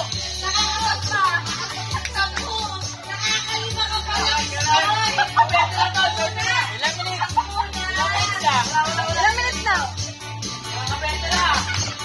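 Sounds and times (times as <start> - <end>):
background music with held bass: 0.0 - 12.0.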